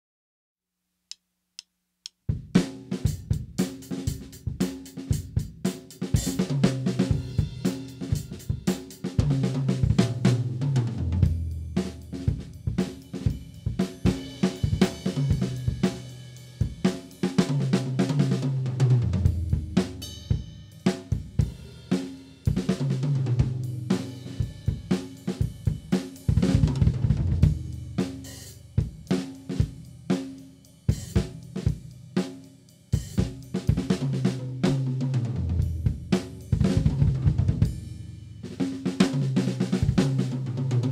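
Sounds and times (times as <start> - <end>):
drum kit groove: 2.0 - 40.9.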